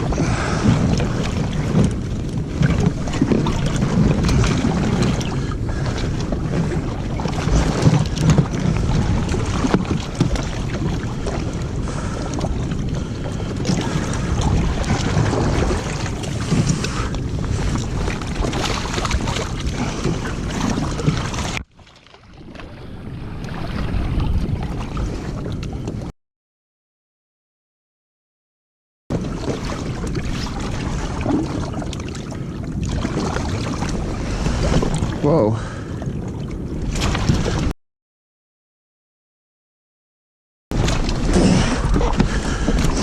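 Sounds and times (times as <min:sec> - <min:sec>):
wind on microphone: 0:00.0 - 0:21.6, 0:22.3 - 0:26.1, 0:29.1 - 0:37.7, 0:40.7 - 0:43.0
water noise: 0:00.0 - 0:26.1, 0:29.1 - 0:37.7, 0:40.7 - 0:43.0.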